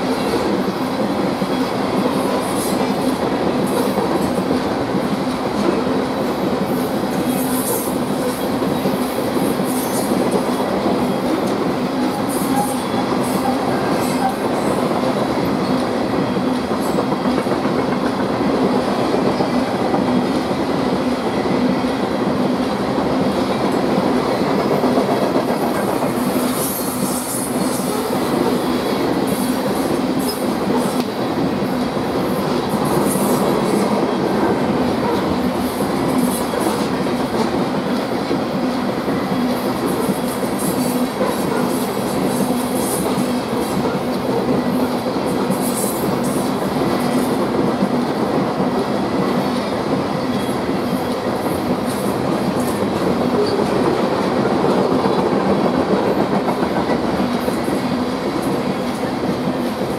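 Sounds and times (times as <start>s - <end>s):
train wheels rumbling over rails: 0.0s - 59.9s.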